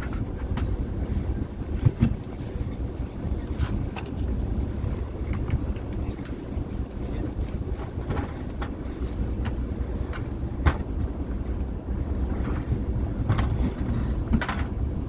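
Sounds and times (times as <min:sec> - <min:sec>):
boat engine rumbling: 0:00.0 - 0:15.0
wind buffeting microphone: 0:00.0 - 0:15.0.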